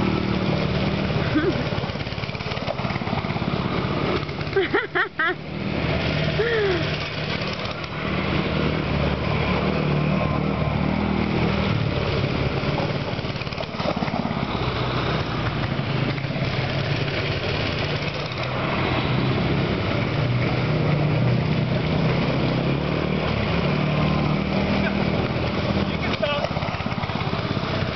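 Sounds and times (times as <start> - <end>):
small engines revving: 0.0 - 27.9.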